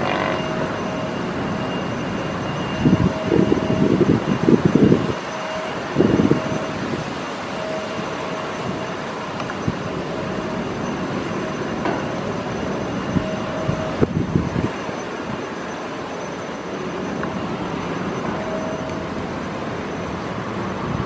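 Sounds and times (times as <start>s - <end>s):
distant jet engine roar: 0.0s - 21.0s.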